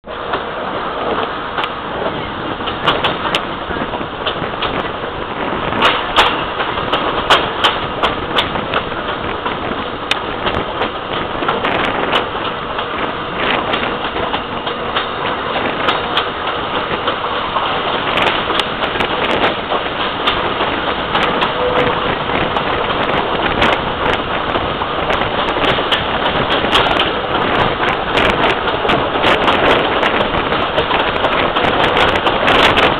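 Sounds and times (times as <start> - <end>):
train carriage rumbling on track: 0.0 - 32.9
clicks and knocks of wheels: 2.6 - 32.9.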